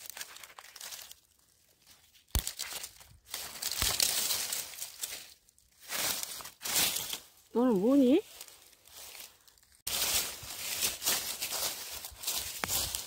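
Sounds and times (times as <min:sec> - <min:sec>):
dry leaves rustling and crunching: 0:00.0 - 0:13.0.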